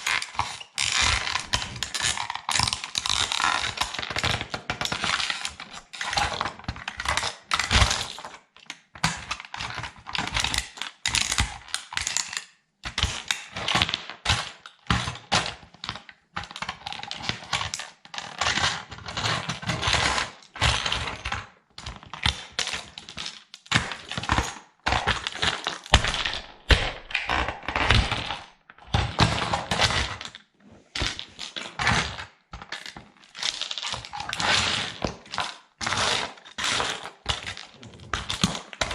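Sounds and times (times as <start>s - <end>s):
plastic toy cracking and crunching: 0.0s - 38.9s.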